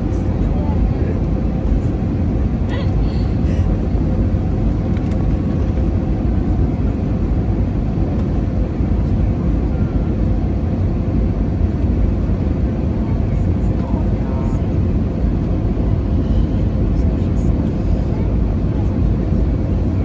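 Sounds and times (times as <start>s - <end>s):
airliner cabin roar: 0.0s - 20.0s.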